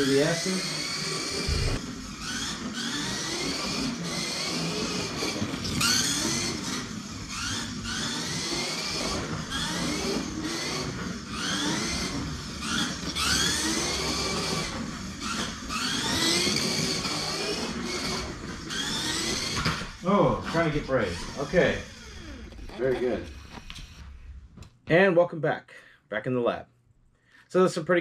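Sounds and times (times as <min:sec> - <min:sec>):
rc car motor whining: 0:00.0 - 0:24.4.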